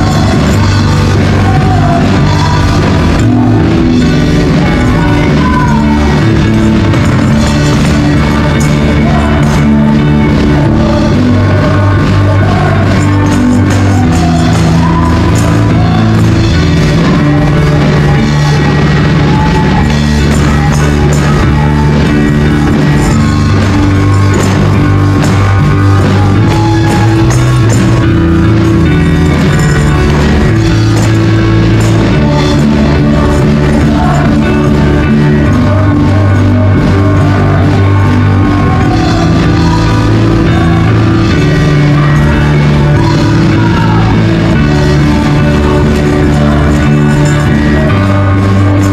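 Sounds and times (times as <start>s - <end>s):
people singing: 0.0s - 48.9s
rock band playing: 0.0s - 48.9s
tambourines shaken: 0.0s - 48.9s.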